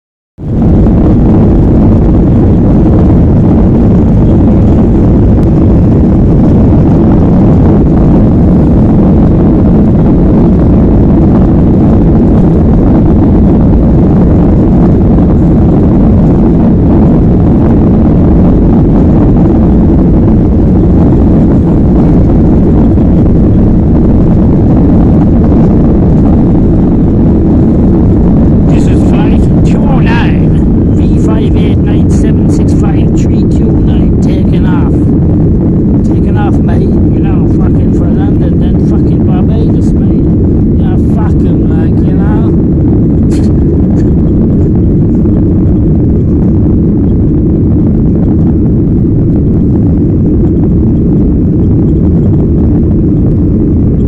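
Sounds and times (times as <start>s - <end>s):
jet engines roaring in cabin: 0.4s - 54.0s.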